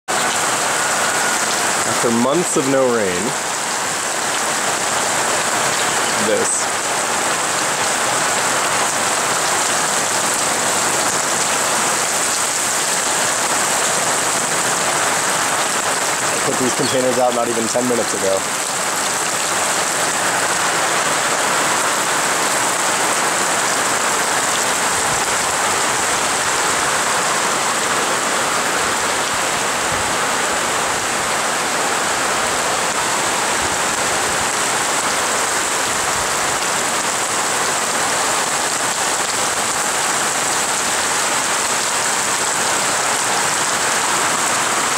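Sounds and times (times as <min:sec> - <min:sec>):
heavy rain pouring: 0:00.1 - 0:44.9.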